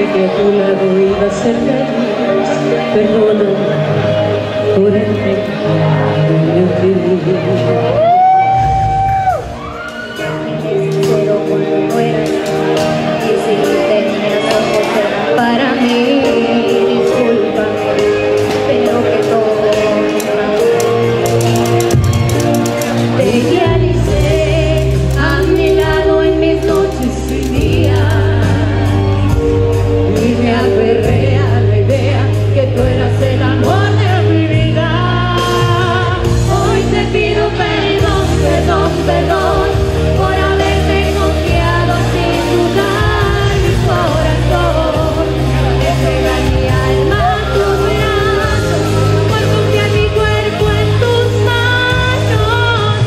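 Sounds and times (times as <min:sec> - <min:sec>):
women singing pop ballad: 0:00.0 - 0:08.8, 0:09.4 - 0:53.0
instrumental accompaniment with bass: 0:00.0 - 0:53.0.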